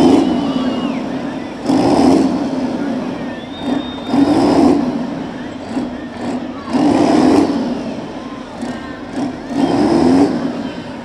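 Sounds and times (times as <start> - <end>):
diesel truck engine running hard: 0.0 - 11.0.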